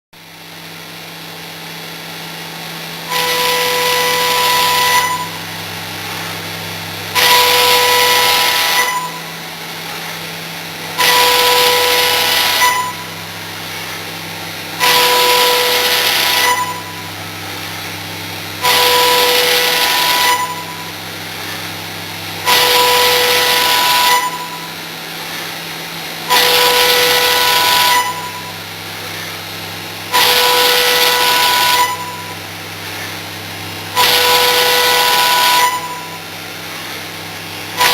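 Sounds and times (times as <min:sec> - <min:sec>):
cutter hissing through metal: 0:00.2 - 0:37.9
milling spindle humming: 0:03.0 - 0:37.9.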